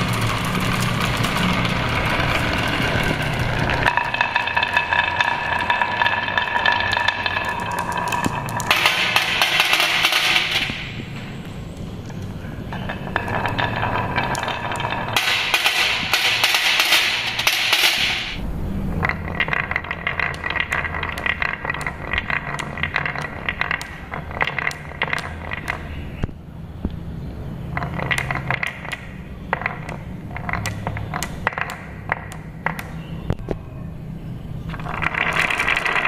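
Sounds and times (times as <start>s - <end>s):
marbles rolling and clacking: 0.0s - 36.0s.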